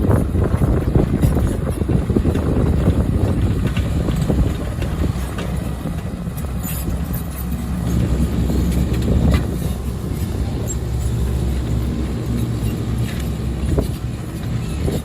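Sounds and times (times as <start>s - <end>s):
diesel engine rumbling: 0.0s - 15.0s
metal knocks and clanks: 0.6s - 15.0s.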